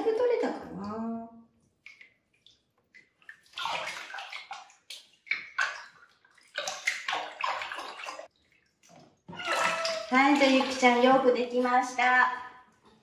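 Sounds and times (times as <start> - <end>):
water sloshing in plastic tub: 0.0 - 13.0.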